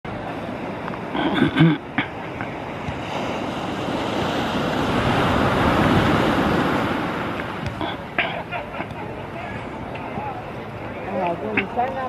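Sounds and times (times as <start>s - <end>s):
wind on microphone: 0.1s - 11.8s
surf breaking on beach: 0.1s - 12.0s.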